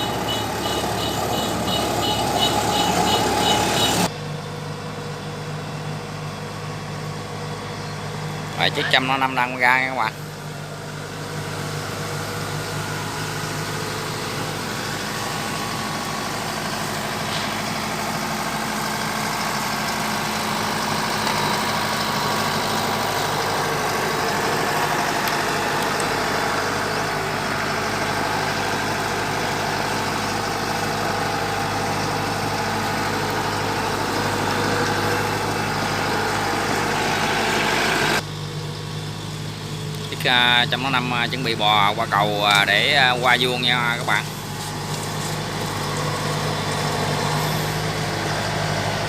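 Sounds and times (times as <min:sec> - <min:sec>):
harvester diesel engine running: 0:00.0 - 0:49.0.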